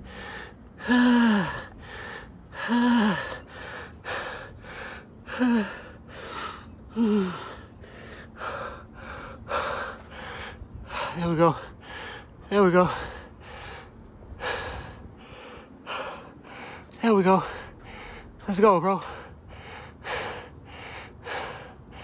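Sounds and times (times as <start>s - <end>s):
gasping groans: 0.0s - 22.0s
person breathing hard: 0.0s - 22.0s.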